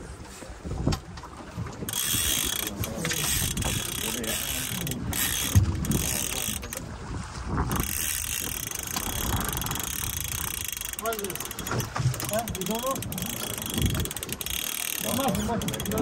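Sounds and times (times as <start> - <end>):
fishing reel ratcheting: 1.8 - 6.8, 7.7 - 16.0.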